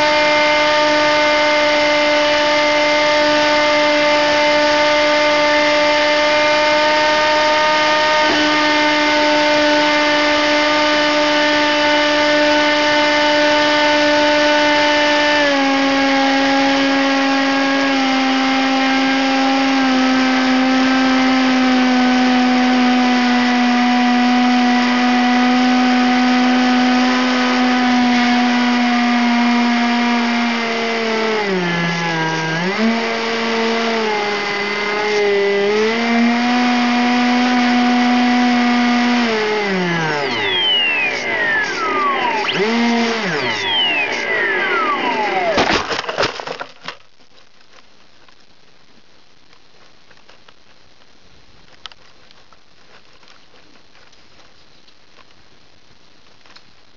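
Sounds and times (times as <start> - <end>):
electric motor and propeller whine: 0.0 - 45.6.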